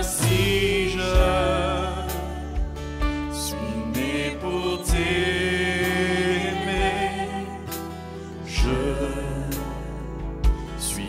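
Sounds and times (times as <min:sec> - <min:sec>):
worship band playing: 0:00.0 - 0:11.0.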